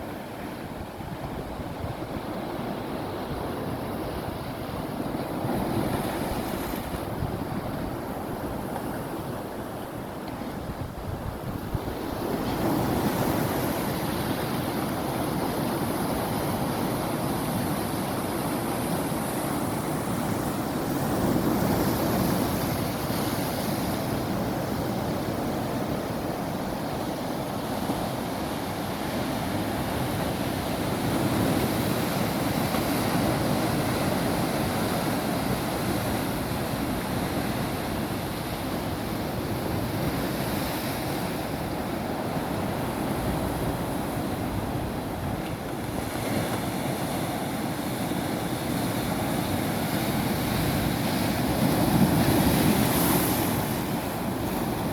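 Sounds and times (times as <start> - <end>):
sea waves washing over rocks: 0.0 - 54.9.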